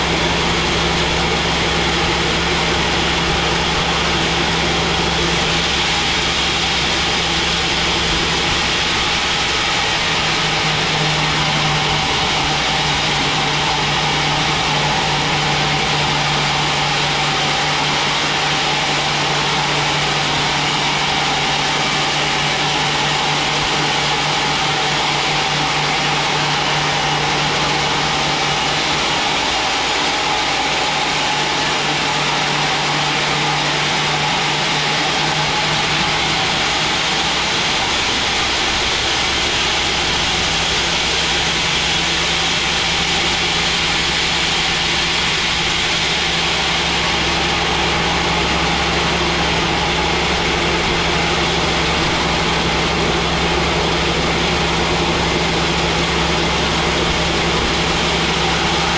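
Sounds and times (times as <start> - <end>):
band saw cutting log: 0.0 - 58.9.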